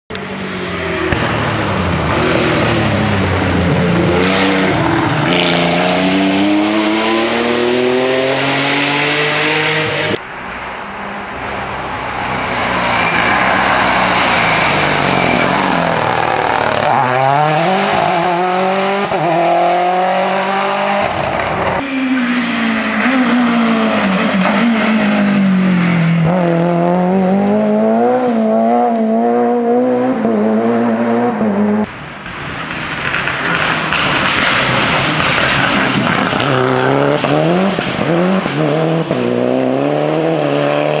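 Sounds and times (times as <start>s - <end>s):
rally car engines revving past: 0.2s - 41.0s.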